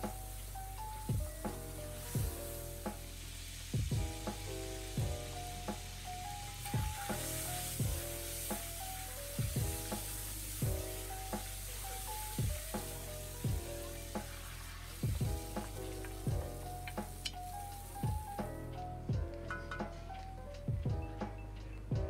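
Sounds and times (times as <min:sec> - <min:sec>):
food sizzling in a wok: 0:00.0 - 0:19.1
background music with thumping beat: 0:00.0 - 0:22.0.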